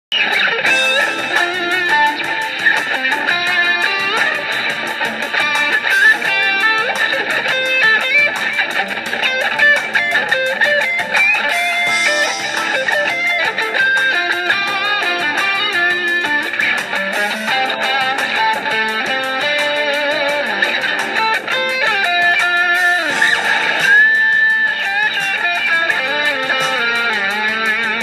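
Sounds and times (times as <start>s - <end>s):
backing track: 0.1s - 28.0s
electric guitar blues solo: 0.1s - 28.0s.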